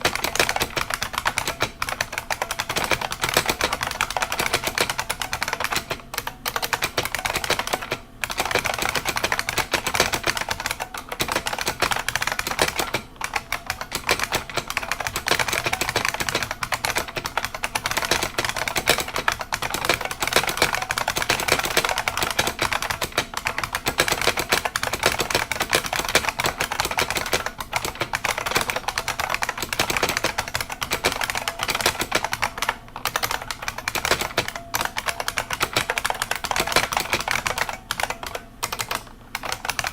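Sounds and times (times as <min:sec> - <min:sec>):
keyboard keys clacking: 0:00.0 - 0:39.9.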